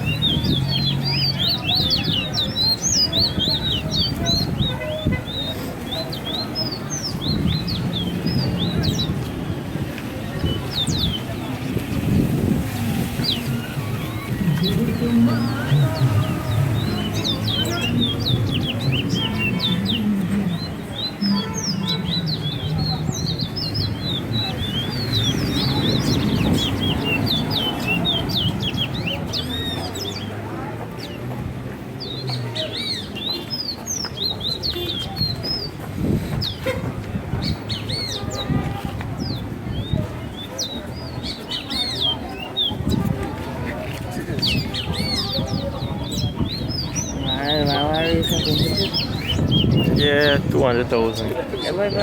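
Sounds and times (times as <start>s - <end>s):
murmur of crowd voices: 0.0s - 52.0s
songbirds chirping: 0.0s - 52.0s.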